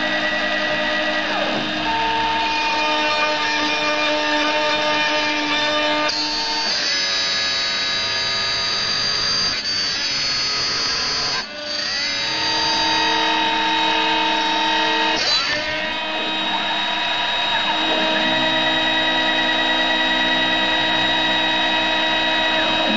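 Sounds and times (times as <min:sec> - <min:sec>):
mini mill cutting plywood: 0:00.0 - 0:22.9.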